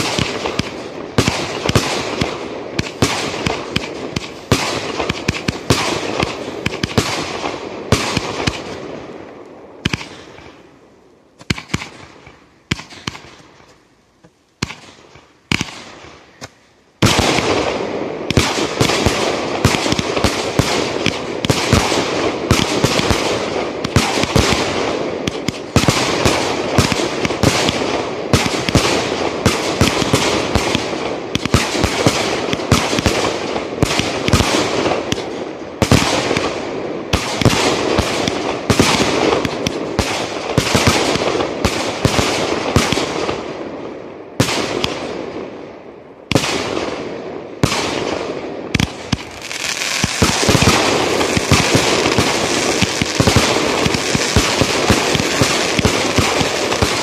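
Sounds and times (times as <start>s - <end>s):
fireworks bursting with sharp bangs: 0.0s - 57.0s.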